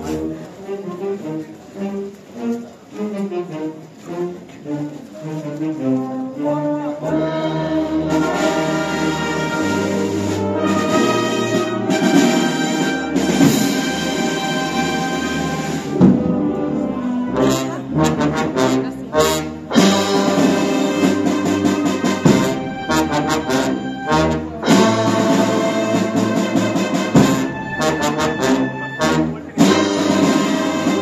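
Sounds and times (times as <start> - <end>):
wind band playing a march: 0.0 - 31.0.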